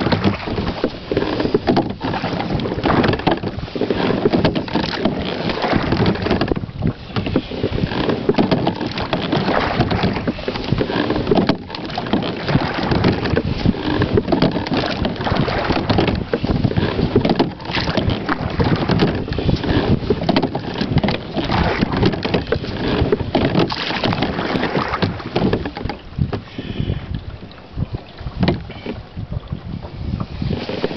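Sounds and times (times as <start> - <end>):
rigging knocks: 0.0 - 26.4, 28.4 - 28.7
oars dipping and pulling through water: 0.0 - 30.9
wind on microphone: 0.0 - 30.9.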